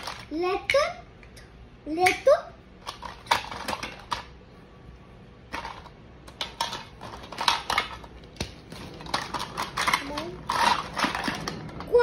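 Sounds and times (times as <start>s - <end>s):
toy kitchen pieces clicking: 0.0s - 0.9s, 2.0s - 4.4s, 5.5s - 12.0s.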